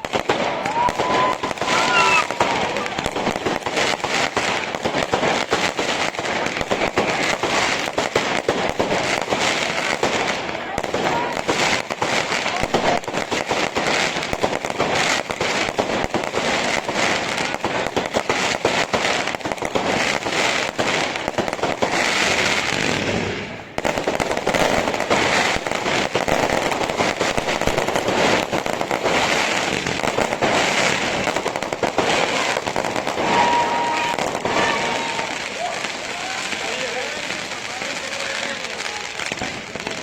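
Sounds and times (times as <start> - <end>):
fireworks launches and bursts: 0.0 - 40.0.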